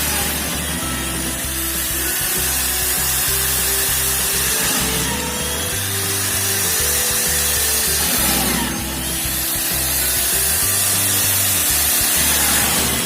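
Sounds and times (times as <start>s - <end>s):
background music with bass line: 0.0s - 13.0s
power tool cutting into wood: 0.0s - 13.0s.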